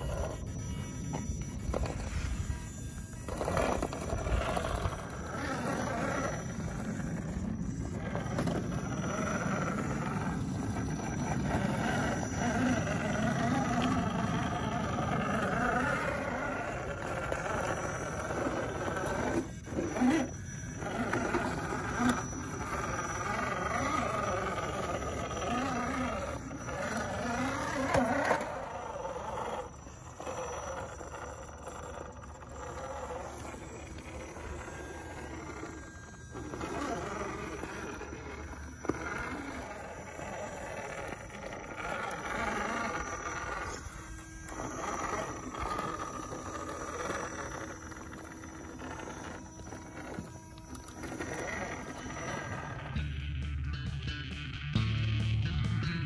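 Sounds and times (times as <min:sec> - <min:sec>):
toy car electric motor whining: 0:00.0 - 0:53.2.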